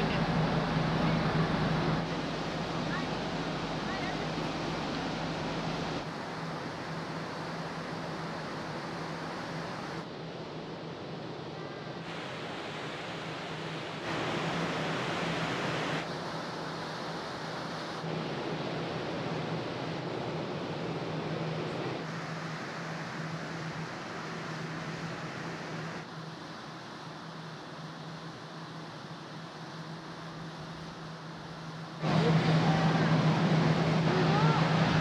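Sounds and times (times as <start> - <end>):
low hum from ship: 0.0 - 35.0
rushing water: 0.0 - 35.0
wind: 0.0 - 35.0.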